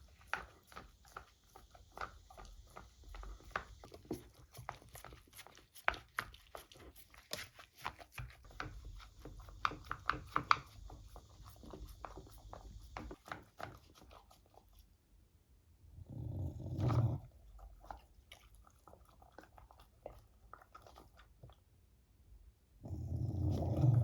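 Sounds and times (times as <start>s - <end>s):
dog licking and chewing: 0.0s - 14.9s, 16.7s - 21.7s.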